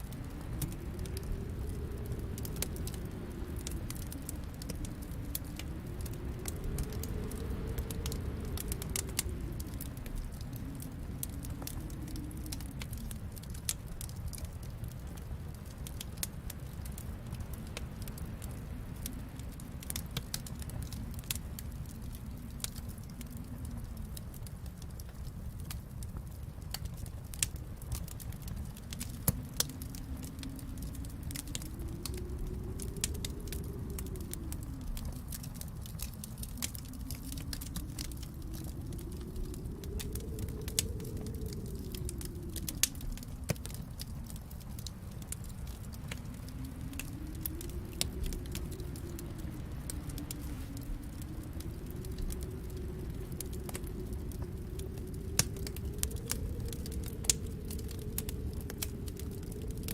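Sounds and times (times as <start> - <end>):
low rumble: 0.0 - 59.9
wood fire crackling: 0.0 - 59.9.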